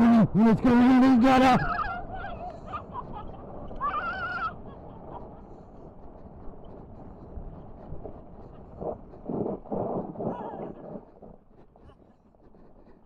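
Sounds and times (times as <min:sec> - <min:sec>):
scooter tyres rolling on gravel: 0:01.4 - 0:13.0.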